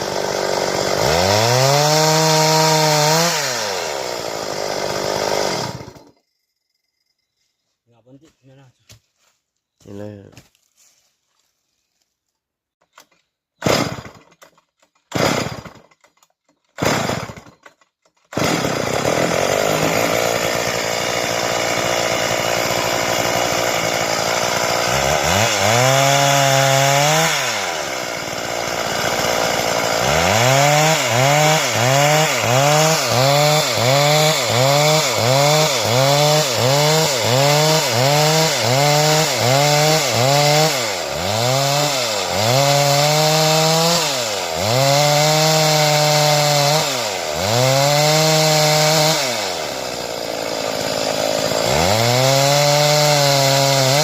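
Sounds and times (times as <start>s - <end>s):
chainsaw starting and revving: 0.0s - 6.2s, 12.9s - 54.0s.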